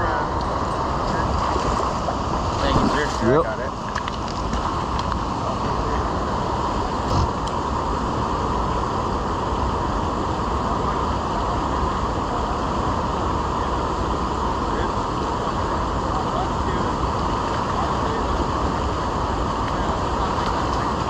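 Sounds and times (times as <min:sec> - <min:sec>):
river water rushing over weir: 0:00.0 - 0:21.0.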